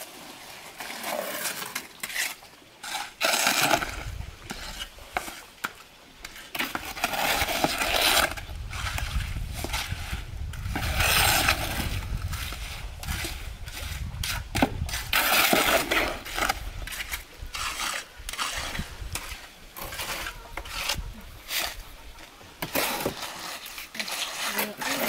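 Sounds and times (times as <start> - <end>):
shovel scraping wet concrete: 0.0 - 21.9, 22.6 - 25.0
trowel rasping over concrete: 0.9 - 21.8, 22.6 - 25.0.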